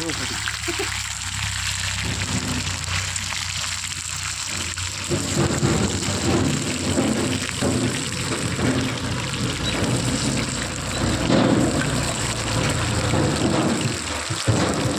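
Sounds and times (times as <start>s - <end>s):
fish sizzling in hot oil: 0.0s - 14.9s.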